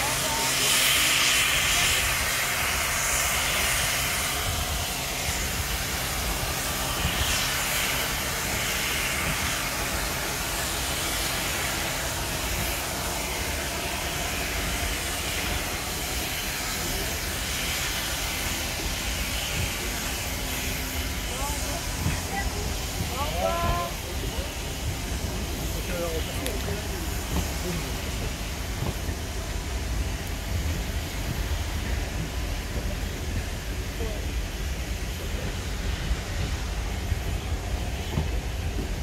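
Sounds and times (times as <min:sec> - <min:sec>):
steam hissing: 0:00.0 - 0:39.0
steam locomotive exhaust beats: 0:00.0 - 0:39.0.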